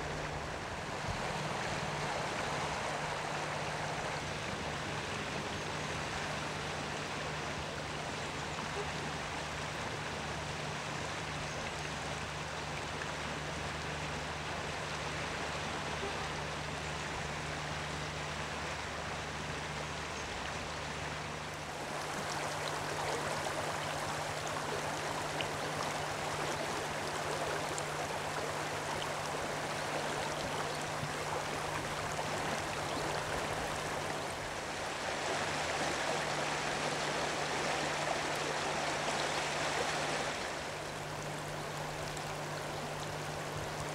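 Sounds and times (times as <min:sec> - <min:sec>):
river water rushing over stones: 0:00.0 - 0:43.9.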